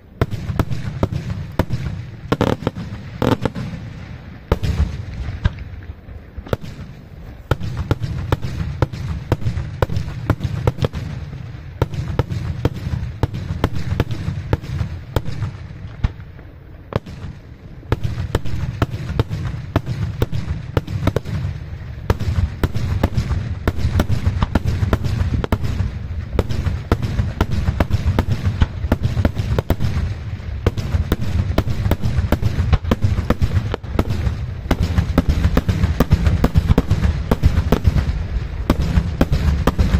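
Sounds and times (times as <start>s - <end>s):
continuous low rumble: 0.0s - 39.9s
fireworks bursting: 0.0s - 39.9s.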